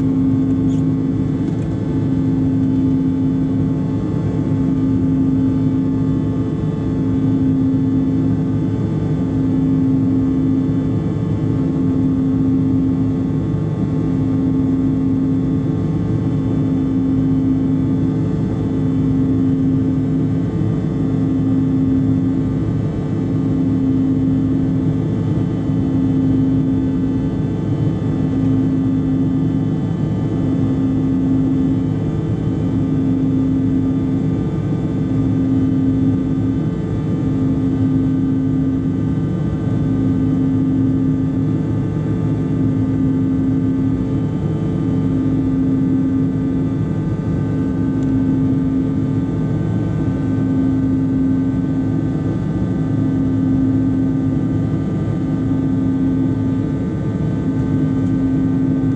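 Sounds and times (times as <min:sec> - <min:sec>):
aircraft engines and airflow drone: 0:00.0 - 0:58.9
pulsing low hum: 0:00.0 - 0:58.9.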